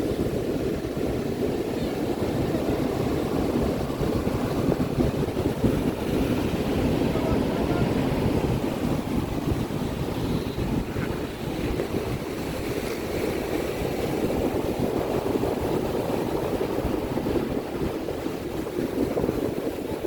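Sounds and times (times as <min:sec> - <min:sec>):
ocean surf washing: 0:00.0 - 0:20.0
wind on microphone: 0:00.0 - 0:20.0.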